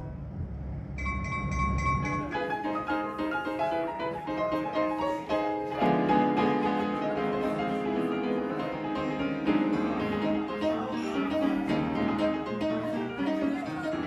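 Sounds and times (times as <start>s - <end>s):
upright piano playing: 1.0s - 14.0s.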